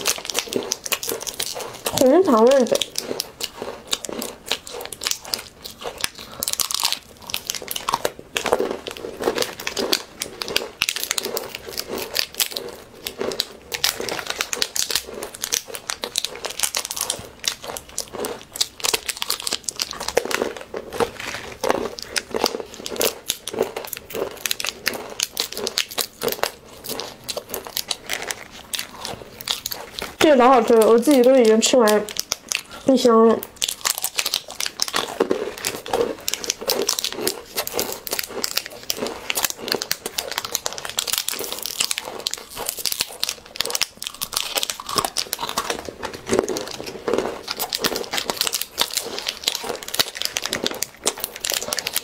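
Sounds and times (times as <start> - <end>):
crunchy biting and chewing: 0.0 - 52.0
plastic wrappers crinkling: 0.0 - 52.0.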